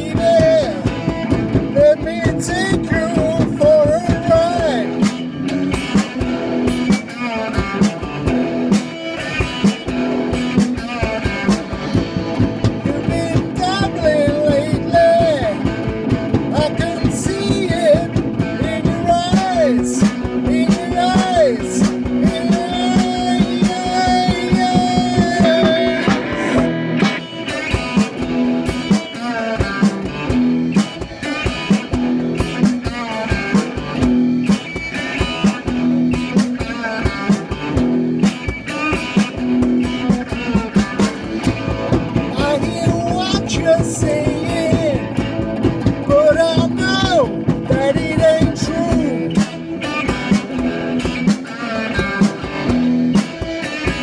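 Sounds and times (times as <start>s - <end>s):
acoustic guitar rock and roll: 0.0s - 54.0s.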